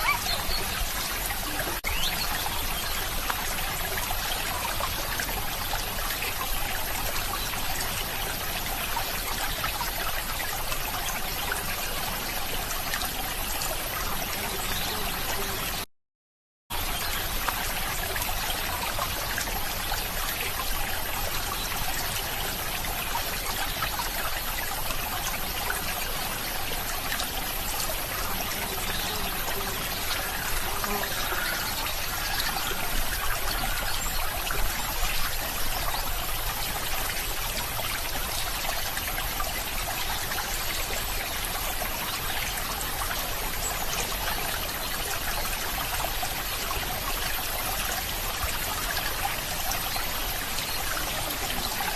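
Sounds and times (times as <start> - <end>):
stream trickling: 0.0 - 15.9, 16.7 - 51.9.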